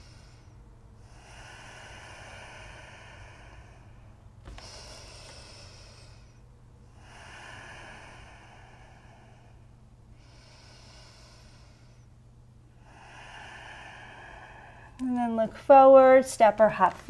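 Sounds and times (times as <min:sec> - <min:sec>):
person breathing through throat: 0:00.0 - 0:12.1, 0:12.7 - 0:15.0.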